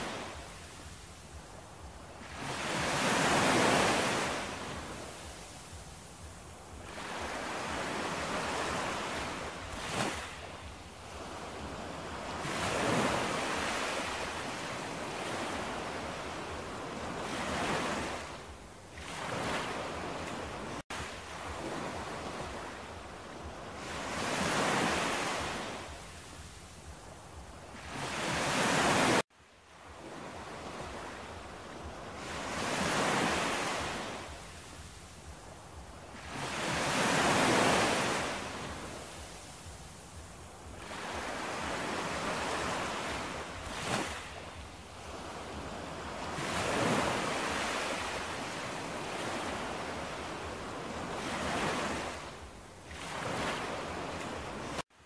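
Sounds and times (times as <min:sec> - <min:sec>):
waves washing onto shore: 0:00.0 - 0:55.0.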